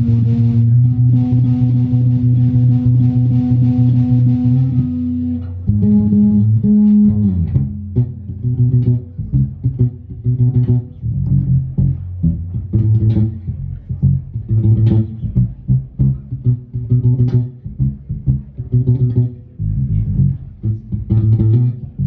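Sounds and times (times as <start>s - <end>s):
electric bass guitar: 0.0s - 22.0s.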